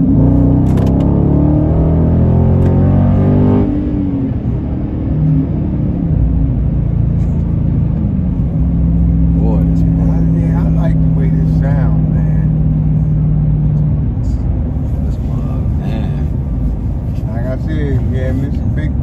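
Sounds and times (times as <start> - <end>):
car engine under throttle: 0.0 - 19.0.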